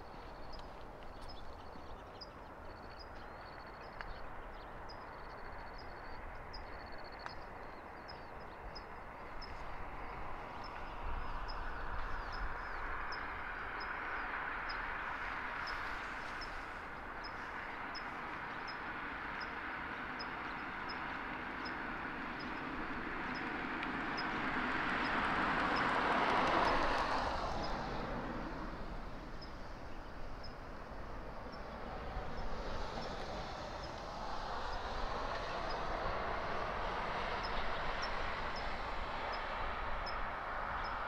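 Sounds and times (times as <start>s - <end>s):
distant traffic noise: 0.0s - 41.0s.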